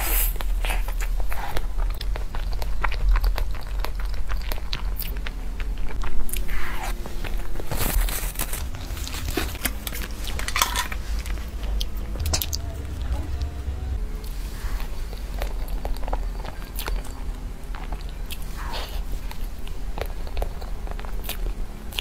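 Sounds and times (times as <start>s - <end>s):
chewing soft pastry: 0.0s - 22.0s
steady low hum: 0.0s - 22.0s.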